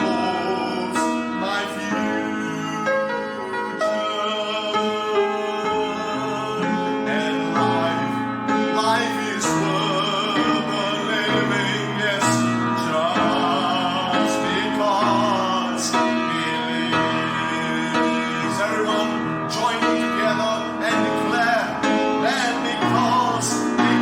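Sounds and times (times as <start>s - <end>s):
worship band playing slow chords: 0.0s - 24.0s.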